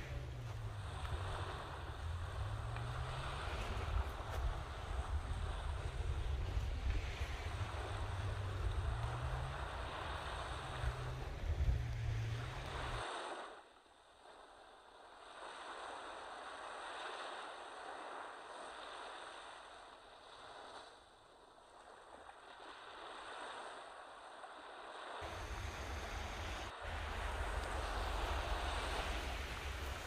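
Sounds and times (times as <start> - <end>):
waves washing onto beach: 0.0 - 30.0.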